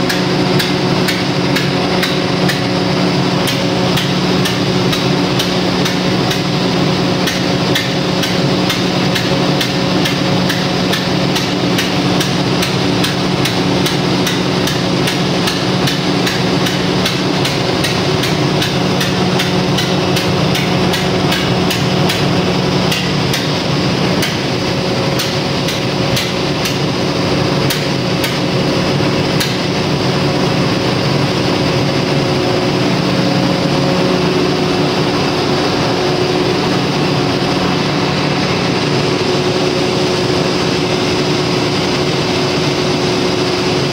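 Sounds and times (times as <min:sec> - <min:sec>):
diesel generator engine running: 0:00.0 - 0:43.9.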